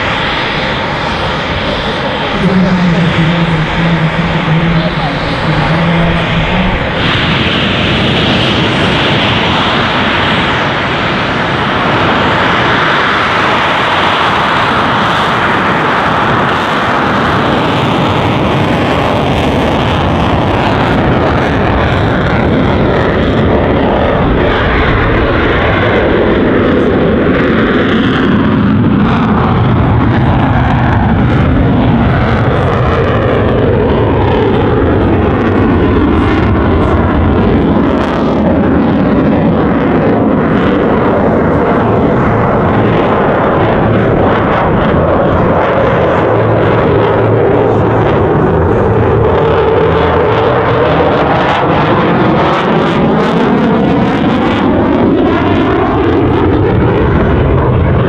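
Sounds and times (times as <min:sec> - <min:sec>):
jet engines roaring at takeoff: 0:00.0 - 0:58.0.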